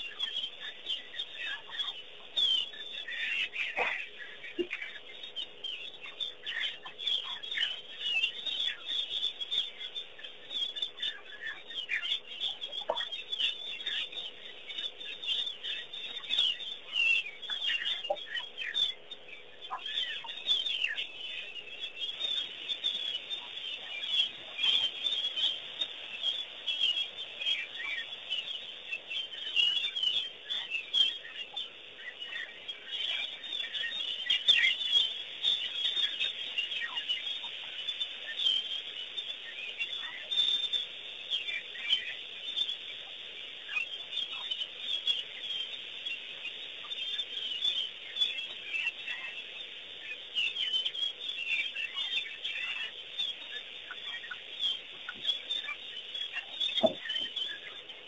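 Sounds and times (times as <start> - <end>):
wild birds chirping: 0.0 - 58.0.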